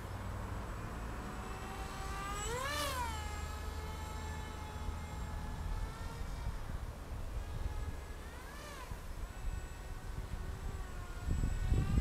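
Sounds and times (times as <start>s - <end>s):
electric motor and propeller whining: 0.0s - 12.0s.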